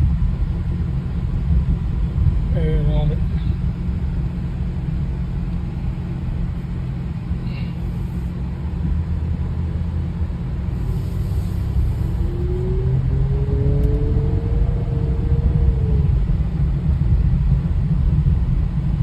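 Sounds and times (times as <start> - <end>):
car engine low rumble: 0.0 - 19.0.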